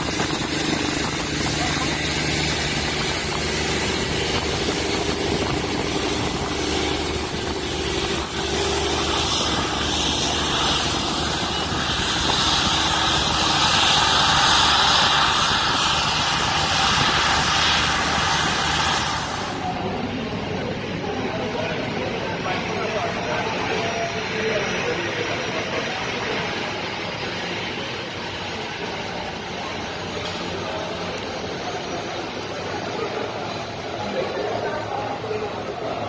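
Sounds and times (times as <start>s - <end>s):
jet engines taxiing: 0.0s - 36.0s.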